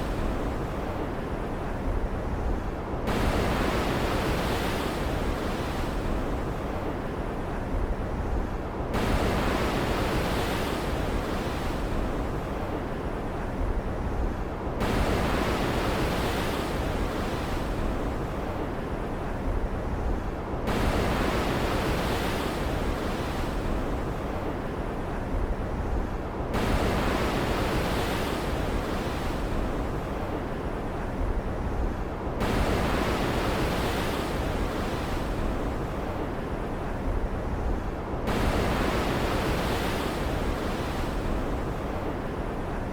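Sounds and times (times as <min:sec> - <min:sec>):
stormy ocean waves breaking: 0:00.0 - 0:42.9.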